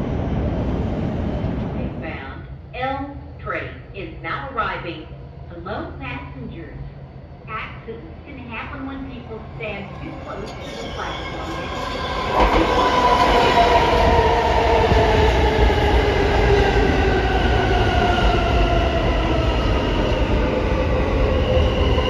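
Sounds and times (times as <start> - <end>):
subway train rail rumble: 0.0 - 22.0.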